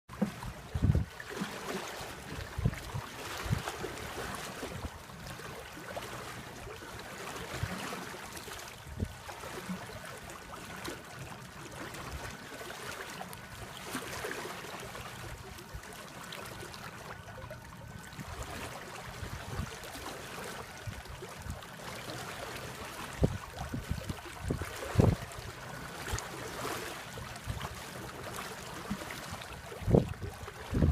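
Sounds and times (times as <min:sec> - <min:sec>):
water splashing along boat hull: 0:00.1 - 0:30.9.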